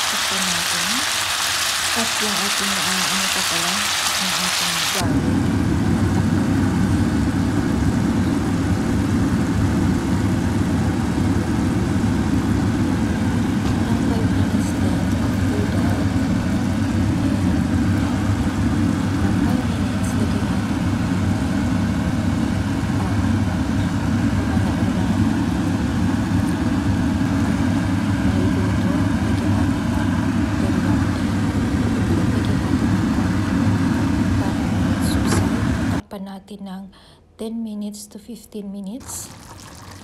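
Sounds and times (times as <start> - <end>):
low rumbling hum: 0.0 - 37.4.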